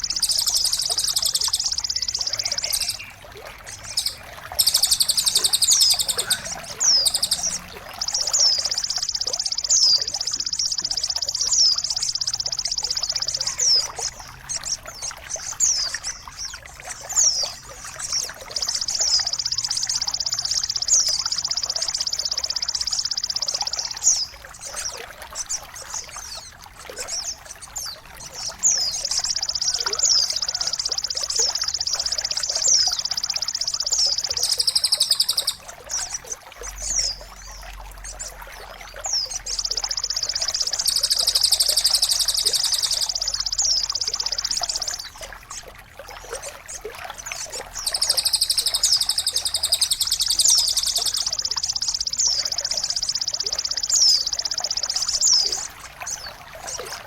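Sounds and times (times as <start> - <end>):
songbird high rapid trills: 0.0 - 45.6, 46.3 - 57.0
water trickling: 0.0 - 57.0.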